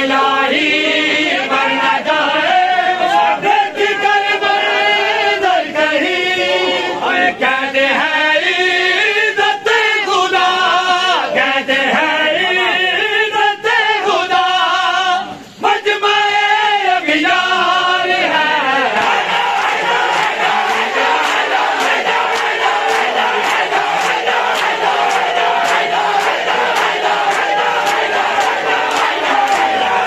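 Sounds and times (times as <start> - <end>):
men chanting lament in chorus: 0.0 - 30.0.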